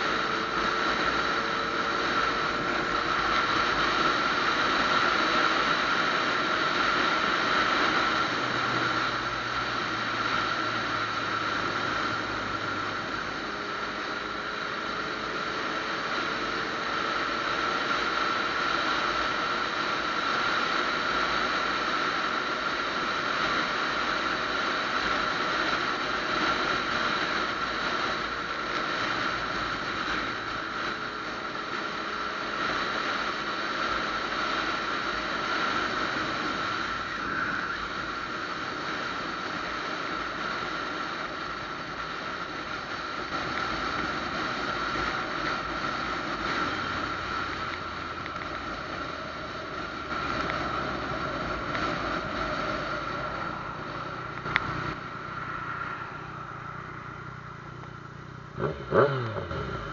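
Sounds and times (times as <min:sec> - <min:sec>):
motorcycle engine drone: 0:00.0 - 0:59.9
steady high whine: 0:00.0 - 0:59.9.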